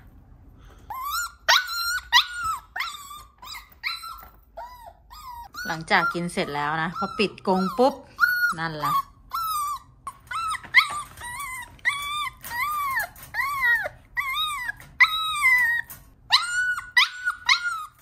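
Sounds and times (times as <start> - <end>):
puppy whining: 0.6 - 18.0.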